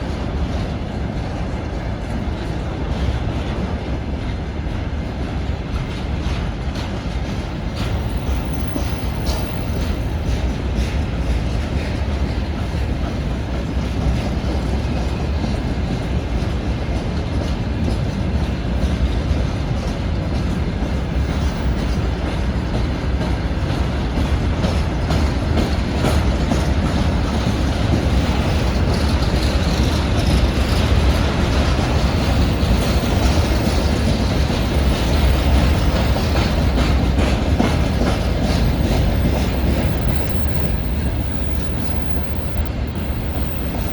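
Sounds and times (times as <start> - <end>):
train wheels clattering over rails: 0.0 - 43.9.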